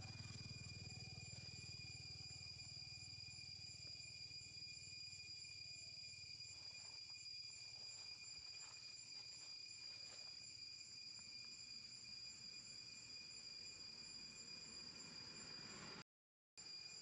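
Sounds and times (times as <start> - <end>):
insects chirring: 0.0 - 16.0, 16.6 - 17.0.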